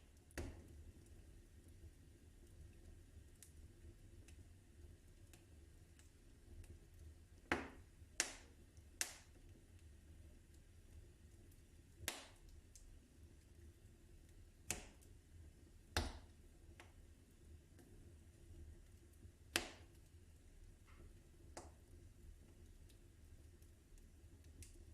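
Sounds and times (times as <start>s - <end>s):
fire crackling and popping: 0.0s - 24.9s.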